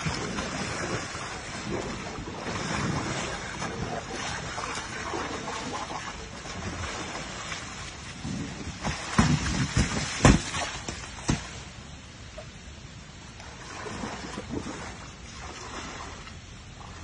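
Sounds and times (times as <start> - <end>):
splashing in muddy water: 0.0 - 11.8, 13.3 - 17.0
elephant wading in water: 0.0 - 17.0.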